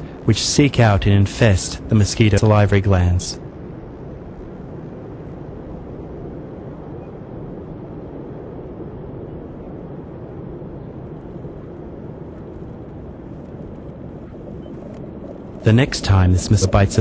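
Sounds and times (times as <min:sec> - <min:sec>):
low rumbling ambient drone: 0:00.0 - 0:17.0.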